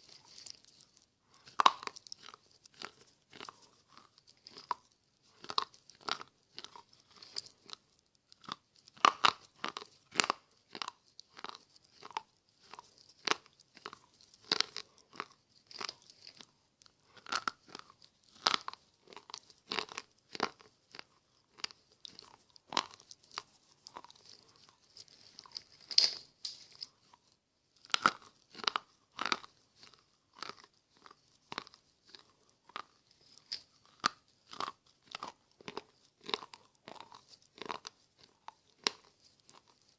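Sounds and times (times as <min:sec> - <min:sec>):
chewing crunchy pencils: 0:00.0 - 0:39.9.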